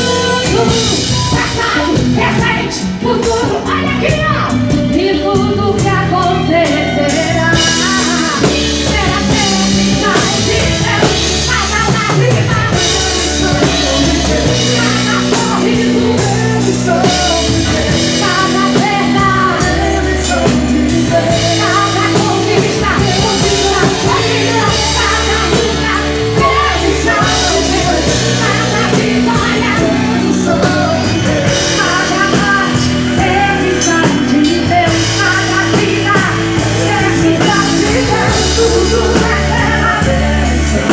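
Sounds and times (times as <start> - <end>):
drum kit beat: 0.0 - 40.9
gospel band playing: 0.0 - 40.9
lead singer: 0.0 - 40.9.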